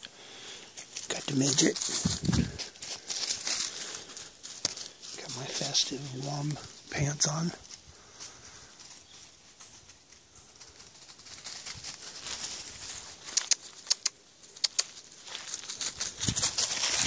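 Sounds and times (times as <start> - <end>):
footsteps in dry leaves: 0.2 - 17.0.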